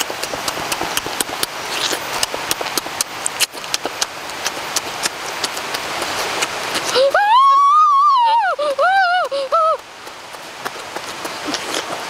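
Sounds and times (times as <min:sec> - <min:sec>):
wet chewing and lip-smacking: 0:00.0 - 0:07.2, 0:08.5 - 0:12.0.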